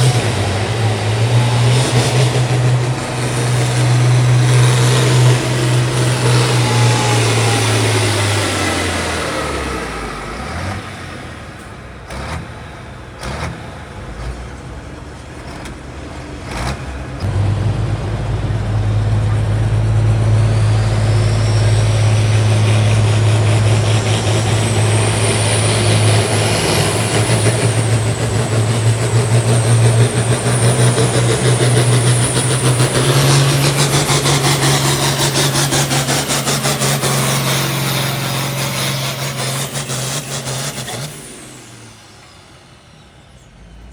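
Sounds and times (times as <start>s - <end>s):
engine whine: 0.0s - 43.9s
tractor engine running: 0.0s - 43.9s.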